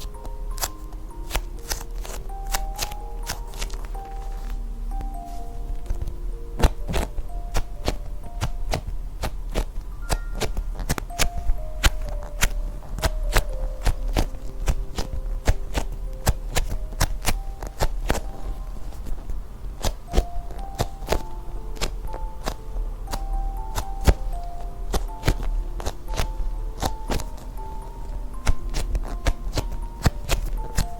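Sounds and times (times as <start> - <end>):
music-box tune: 0.0 - 30.9
sharp taps and clicks: 0.0 - 30.9.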